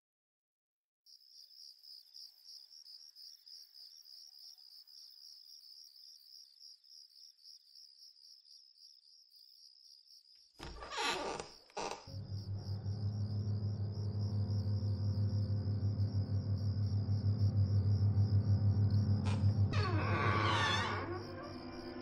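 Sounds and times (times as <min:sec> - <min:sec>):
crickets chirping: 0:01.1 - 0:22.0.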